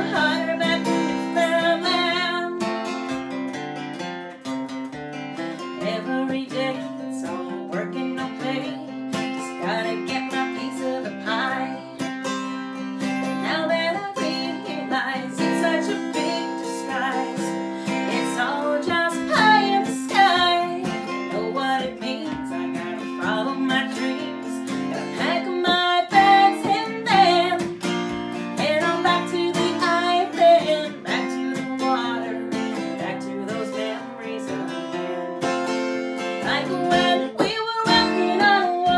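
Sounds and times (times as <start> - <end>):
woman singing: 0.0 - 3.2, 5.4 - 38.9
strummed acoustic guitar: 0.0 - 38.9.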